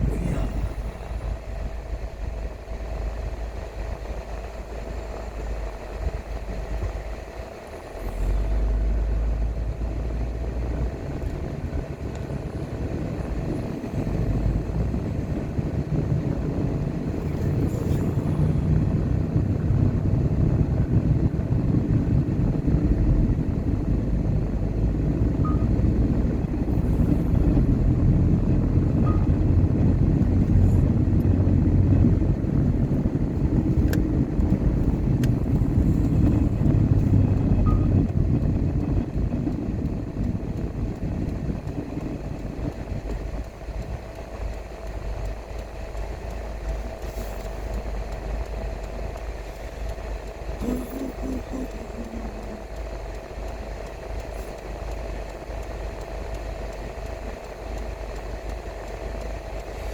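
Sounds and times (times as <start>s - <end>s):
car engine and tyres rumbling: 0.0s - 59.9s
faint constant hum: 0.0s - 59.9s.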